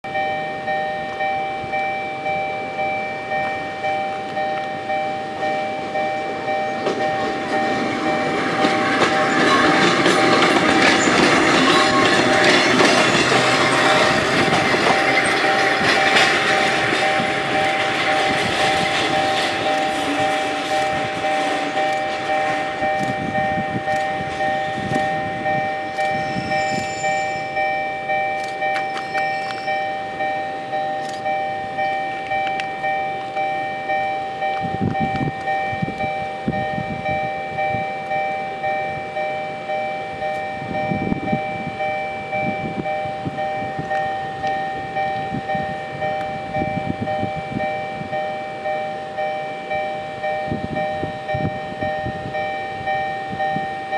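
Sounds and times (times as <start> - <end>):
electric train rumbling: 0.0 - 53.9
level crossing warning bell: 0.0 - 53.9.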